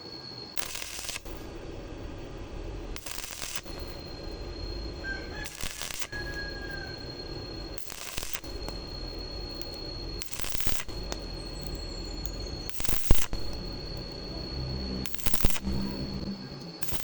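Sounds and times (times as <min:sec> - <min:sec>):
steady high whine: 0:00.0 - 0:17.0
welding arc crackling: 0:00.6 - 0:17.0.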